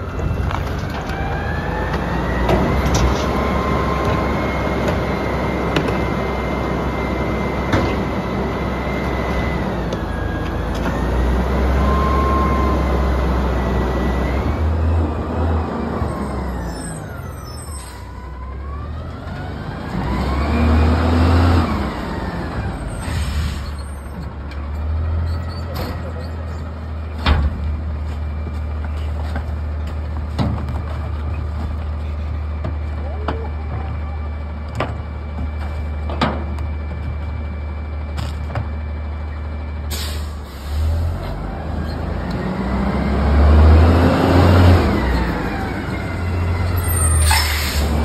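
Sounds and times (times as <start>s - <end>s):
garbage truck engine whining: 0.0s - 48.0s.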